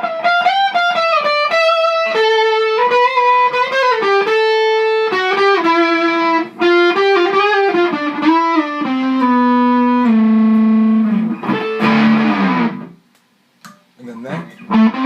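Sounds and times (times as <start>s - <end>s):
distorted electric guitar notes: 0.0s - 13.0s, 14.4s - 15.0s.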